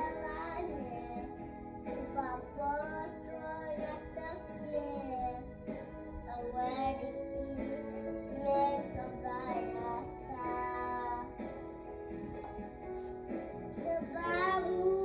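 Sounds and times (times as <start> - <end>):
child singing into microphone: 0.0 - 11.5, 13.8 - 15.0
backing music: 0.0 - 15.0.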